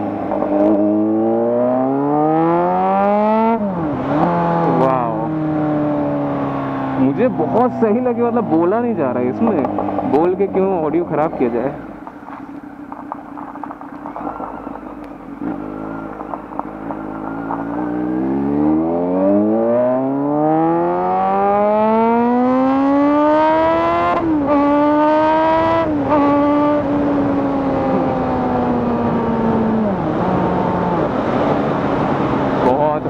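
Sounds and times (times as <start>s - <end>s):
motorcycle engine accelerating hard: 0.0s - 33.0s.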